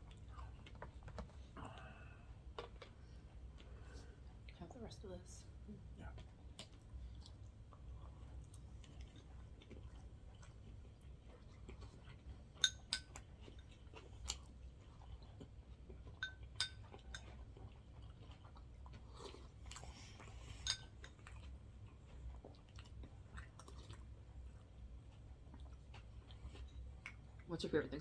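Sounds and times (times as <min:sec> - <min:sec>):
close chewing: 0:00.0 - 0:04.7, 0:05.6 - 0:27.5.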